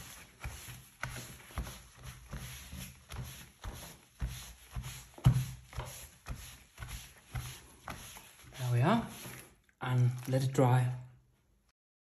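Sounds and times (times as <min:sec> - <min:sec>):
wet cloth wiping wooden board: 0:00.0 - 0:10.5.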